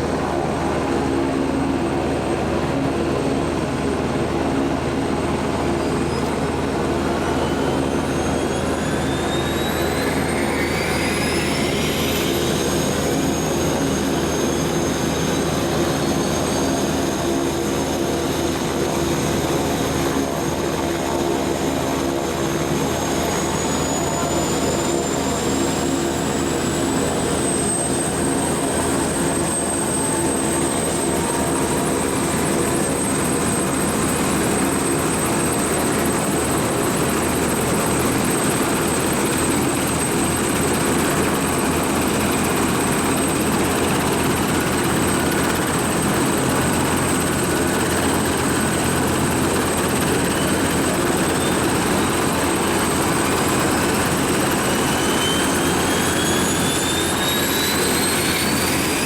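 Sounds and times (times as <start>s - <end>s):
helicopter turbine whine: 0.0s - 59.0s
turbine spooling up: 4.4s - 59.0s.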